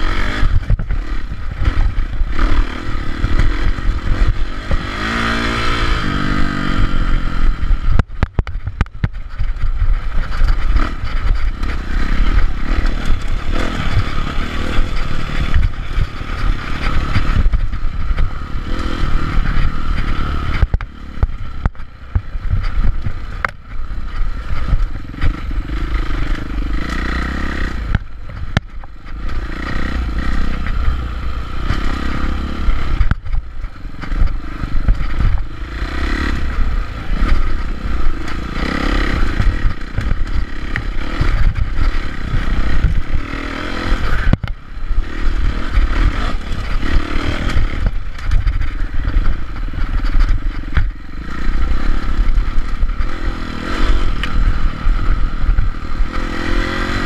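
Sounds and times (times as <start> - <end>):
bike knocking and rattling: 0.0 - 57.0
dirt bike engine revving: 0.0 - 57.0
wind rumble on microphone: 0.0 - 57.0.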